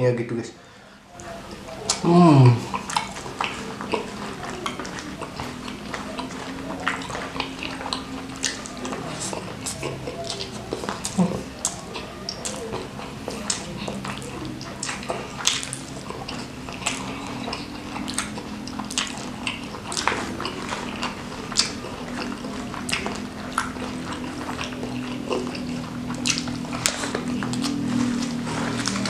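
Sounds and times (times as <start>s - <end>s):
faint low hum: 0.0s - 29.0s
person chewing and crunching: 1.1s - 29.0s.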